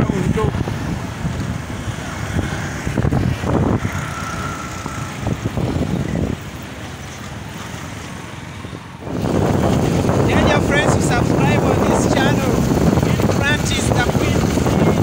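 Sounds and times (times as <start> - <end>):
cars passing: 0.0 - 15.0
motorcycle engine: 0.0 - 15.0.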